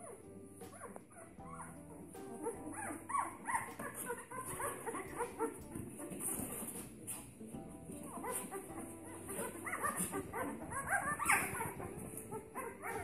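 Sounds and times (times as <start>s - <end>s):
background music: 0.0s - 13.0s
puppies whining and squeaking: 0.0s - 13.0s.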